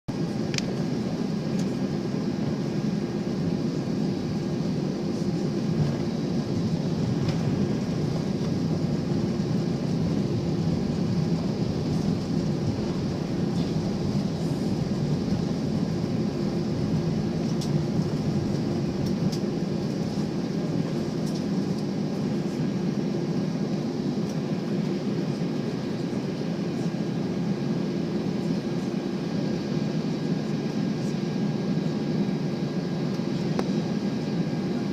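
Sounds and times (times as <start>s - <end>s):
jet engines inside cabin: 0.1s - 34.9s.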